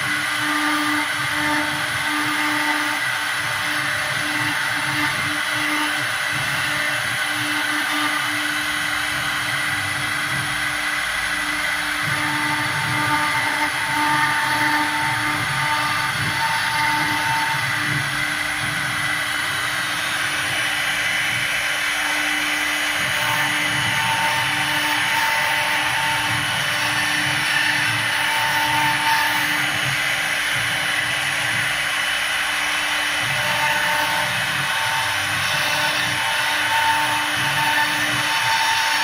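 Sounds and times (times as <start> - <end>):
router spindle whine: 0.0 - 39.0.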